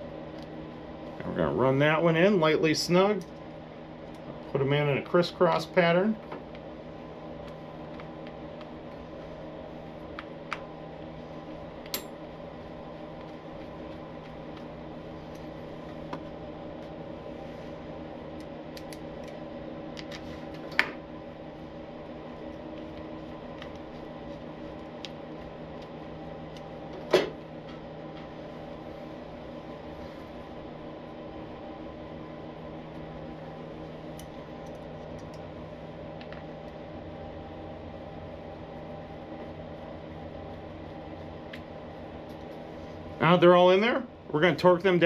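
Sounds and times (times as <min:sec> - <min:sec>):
steady hum: 0:00.0 - 0:45.0.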